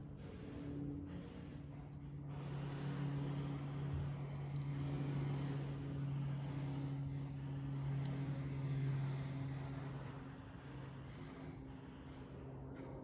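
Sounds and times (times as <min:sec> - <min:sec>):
faint fire crackles: 0:00.0 - 0:13.0
steady low hum: 0:00.0 - 0:13.0
wood fire hissing: 0:00.0 - 0:13.0.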